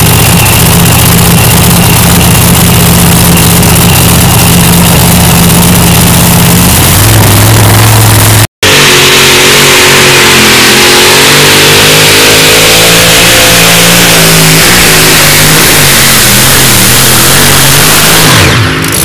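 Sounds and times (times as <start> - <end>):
truck engine at full throttle: 0.0 - 19.0.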